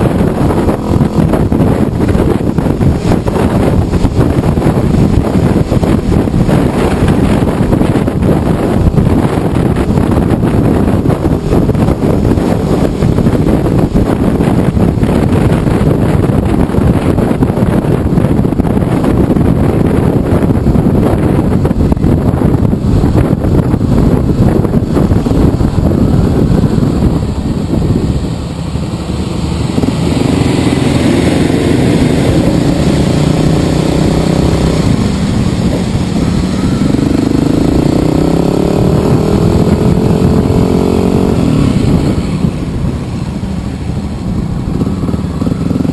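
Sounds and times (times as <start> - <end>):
motorcycle engine running: 0.0 - 45.9
wind noise on microphone: 0.0 - 45.9.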